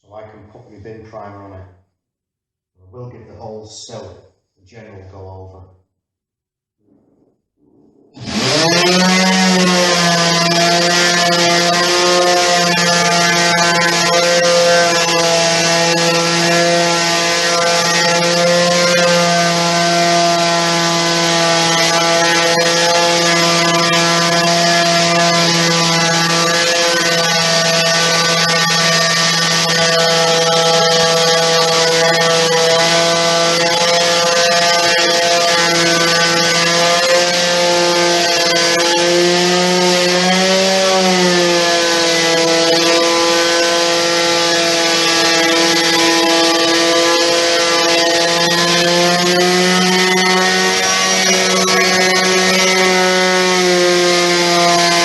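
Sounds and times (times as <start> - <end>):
dust extraction vacuum running: 8.2 - 55.0
electric sander on wood: 8.2 - 55.0.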